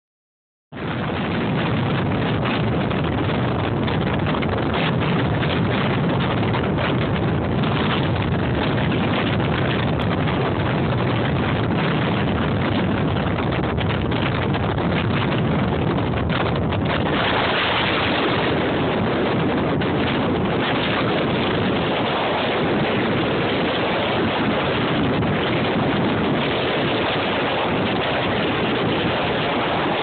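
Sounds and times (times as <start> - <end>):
strong wind on microphone: 0.7 - 30.0.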